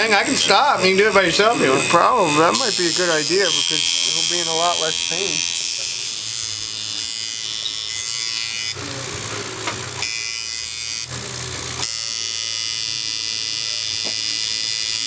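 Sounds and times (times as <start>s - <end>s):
tattoo machine buzzing: 0.0s - 15.0s.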